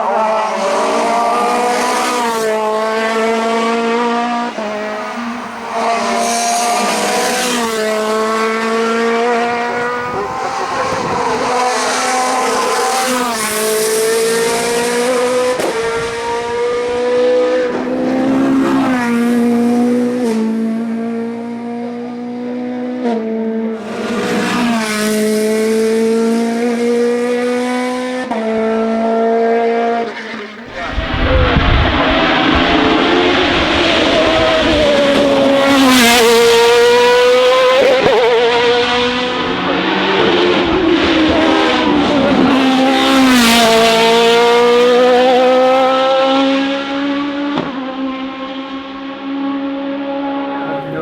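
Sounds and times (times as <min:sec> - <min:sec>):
car engine revving through gears: 0:00.0 - 0:51.0.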